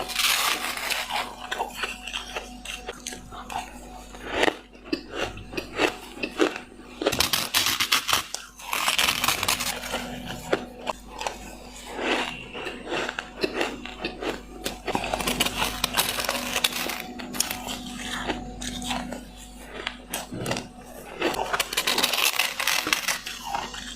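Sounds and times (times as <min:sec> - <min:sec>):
person crunching ice: 0:00.0 - 0:23.9.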